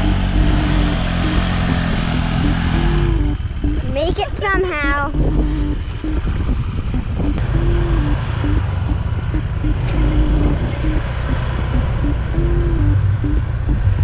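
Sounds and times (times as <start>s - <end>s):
moving vehicle rumble: 0.0s - 14.0s.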